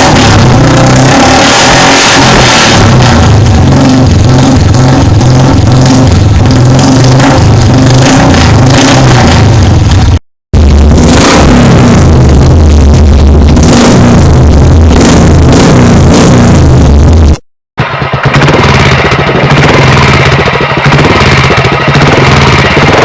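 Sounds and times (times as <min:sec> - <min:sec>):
motorcycle exhaust revving: 0:00.0 - 0:23.0
music with heavy bass: 0:00.0 - 0:23.0.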